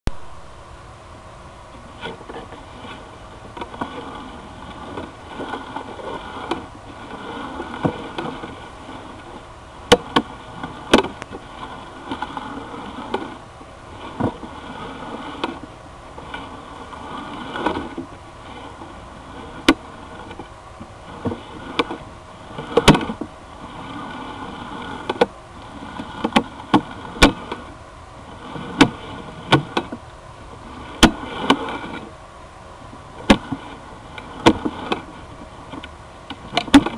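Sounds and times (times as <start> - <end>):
camera motor hum with whine: 0.1 - 36.9.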